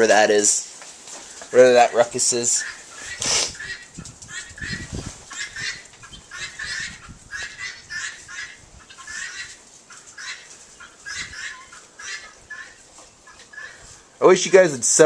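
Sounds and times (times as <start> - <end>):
hens clucking and squawking: 1.1 - 14.5.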